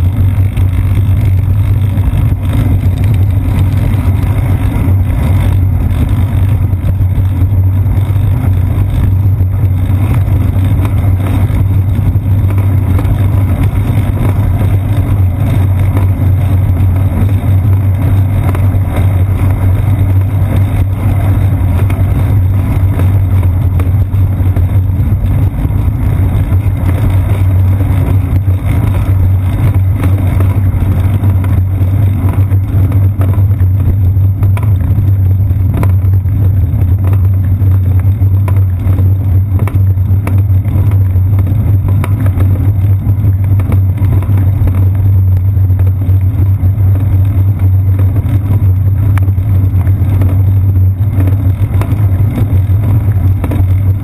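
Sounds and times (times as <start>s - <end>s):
road vibration rumble: 0.0s - 54.0s
wind: 0.0s - 54.0s.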